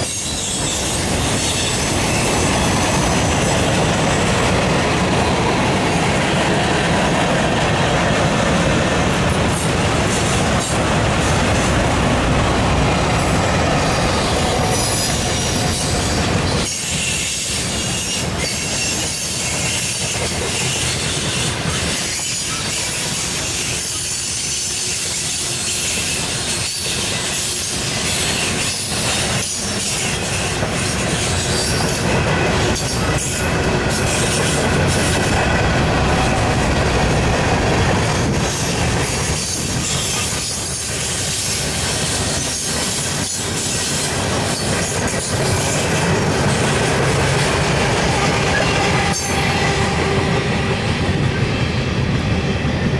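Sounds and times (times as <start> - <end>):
freight cars rumbling and rattling: 0.0 - 22.7, 28.9 - 52.9.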